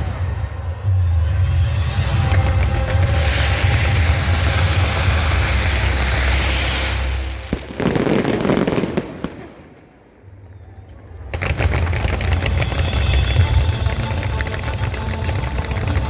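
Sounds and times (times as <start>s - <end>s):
fireworks bursting and crackling: 1.7s - 10.2s, 11.1s - 16.0s.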